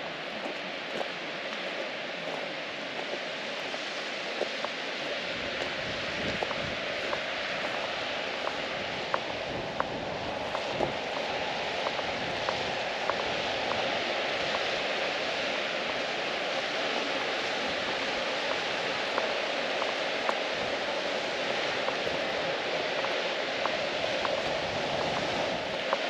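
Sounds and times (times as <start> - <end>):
mountain stream rushing: 0.0 - 26.0.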